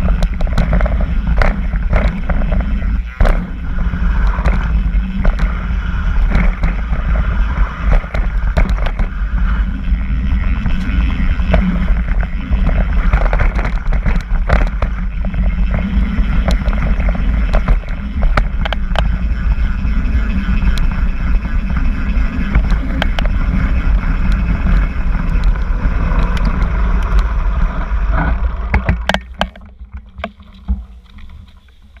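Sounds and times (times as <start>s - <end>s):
bike rattling over bumps: 0.0s - 32.0s
bike rolling on gravel: 0.0s - 32.0s
bike tyres rolling over dirt: 0.0s - 32.0s
wind on microphone: 0.0s - 32.0s.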